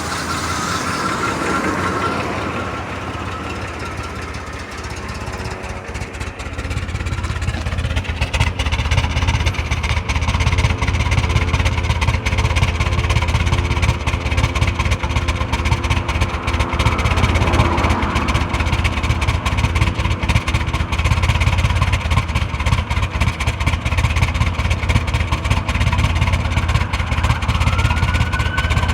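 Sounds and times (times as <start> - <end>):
car engine idling roughly: 0.0 - 28.9.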